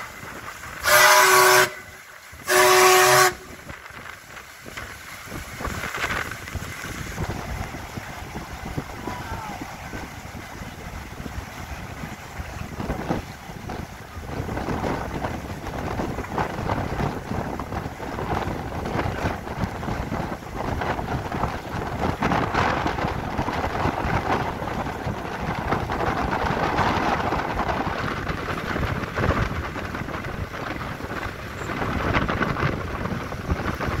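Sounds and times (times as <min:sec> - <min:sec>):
sea water: 0:00.0 - 0:34.0
wind buffeting microphone: 0:00.0 - 0:34.0.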